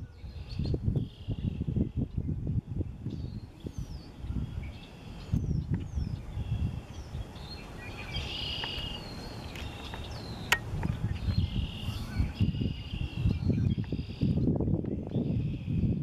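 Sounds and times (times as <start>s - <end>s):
birds chirping and whistling: 0.0s - 16.0s
wind gusts on microphone: 0.0s - 16.0s.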